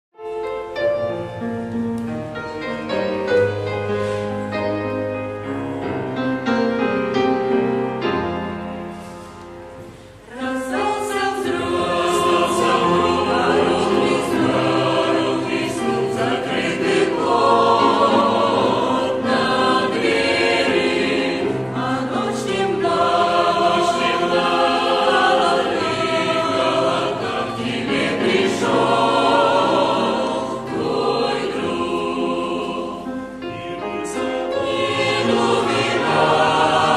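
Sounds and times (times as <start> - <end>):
soft instrumental music: 0.2 - 36.9
church choir singing a hymn: 2.6 - 36.9.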